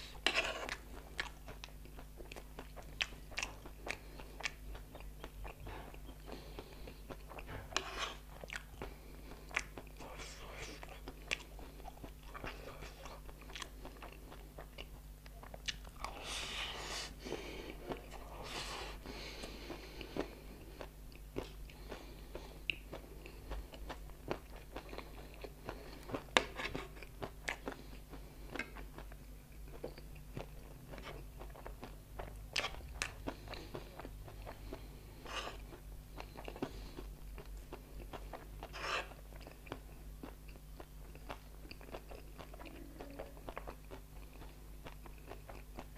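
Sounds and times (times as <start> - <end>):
crunching and chewing snack: 0.1 - 16.2, 19.1 - 45.9.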